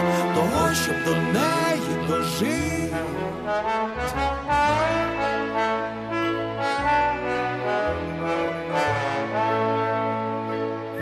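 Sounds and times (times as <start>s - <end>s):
orchestral brass chords: 0.0s - 11.0s.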